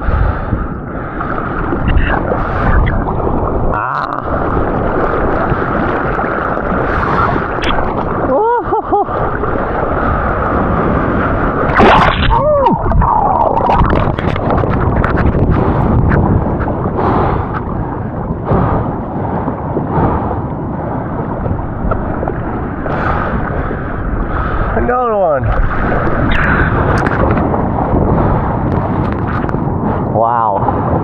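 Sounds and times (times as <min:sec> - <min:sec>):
surf rushing water: 0:00.0 - 0:31.0
splash and bubbling gurgles: 0:01.2 - 0:24.3, 0:25.4 - 0:30.1.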